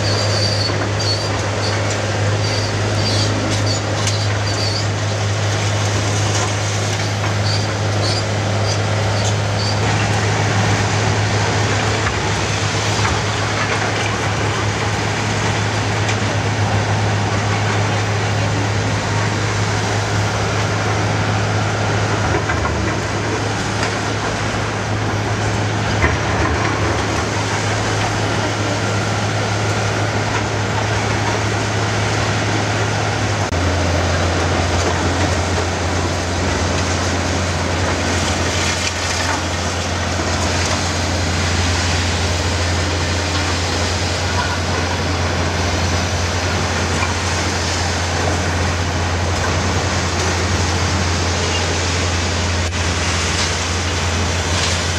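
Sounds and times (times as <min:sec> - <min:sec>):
excavator diesel engines droning: 0:00.0 - 0:54.9.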